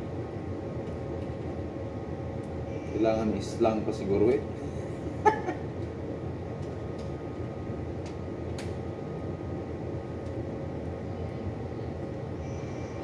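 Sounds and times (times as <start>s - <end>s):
machinery rumble and hum: 0.0s - 13.0s.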